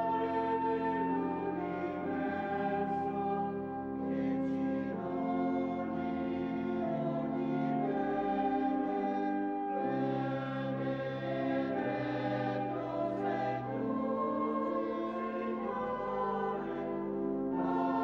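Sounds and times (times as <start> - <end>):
flute: 0.0 - 18.0
pipe organ: 0.0 - 18.0.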